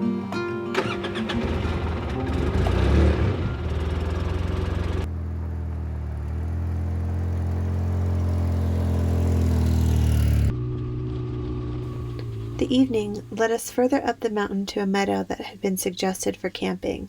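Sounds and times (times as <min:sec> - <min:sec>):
vehicle engine running: 0:00.8 - 0:14.6.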